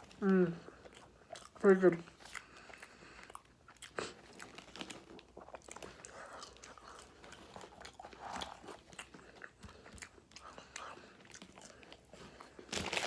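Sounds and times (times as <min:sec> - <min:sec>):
mouth chewing food wetly: 0:00.0 - 0:13.0.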